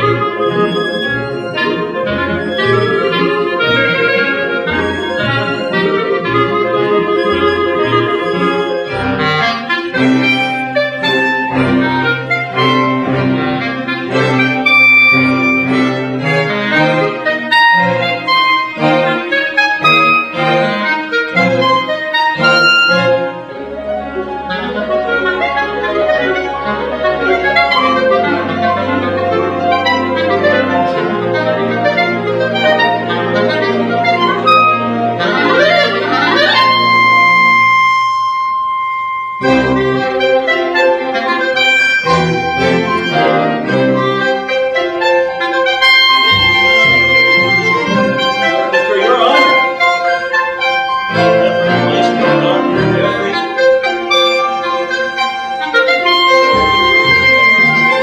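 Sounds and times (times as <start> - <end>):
orchestra playing classical music: 0.0 - 58.0.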